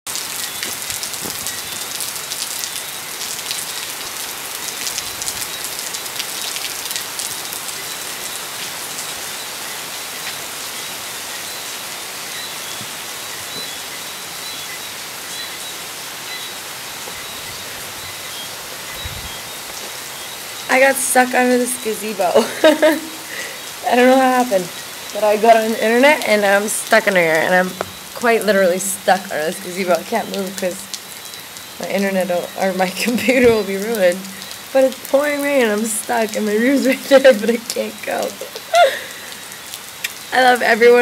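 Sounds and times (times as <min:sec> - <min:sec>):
heavy rain pouring: 0:00.1 - 0:41.0
frogs chirping: 0:00.2 - 0:41.0.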